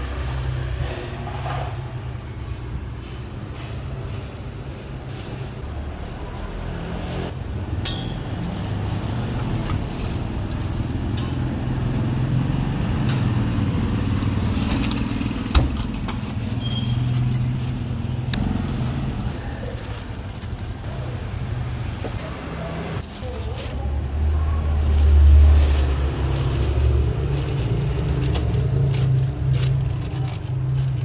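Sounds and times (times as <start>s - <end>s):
motorbikes passing: 0.0s - 31.0s
street traffic rumble: 0.0s - 31.0s.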